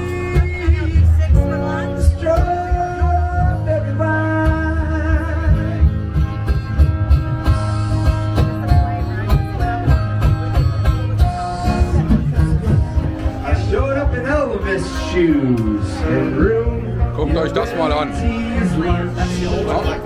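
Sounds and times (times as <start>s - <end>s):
guitar: 0.0s - 20.0s.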